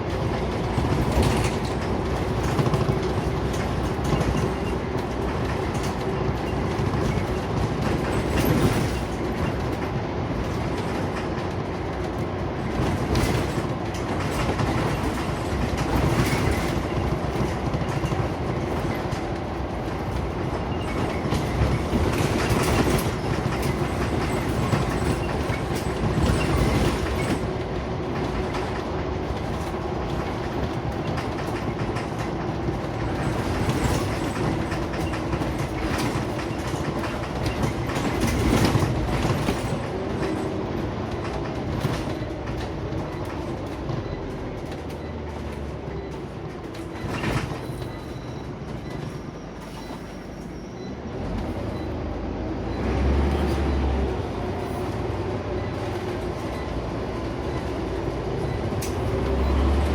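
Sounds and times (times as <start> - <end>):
bus body rattling: 0.0 - 59.9
bus engine running: 0.0 - 59.9
road noise: 0.0 - 59.9.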